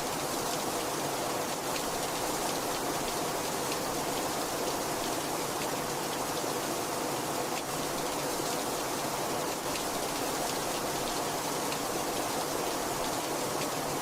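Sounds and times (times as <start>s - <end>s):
heavy rainfall: 0.0s - 14.0s.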